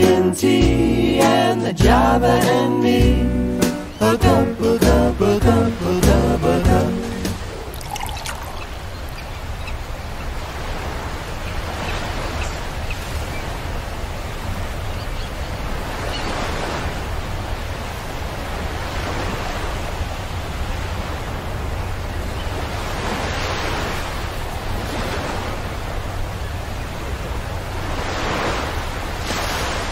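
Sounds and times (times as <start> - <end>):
waves washing onto shore: 3.7 - 29.9.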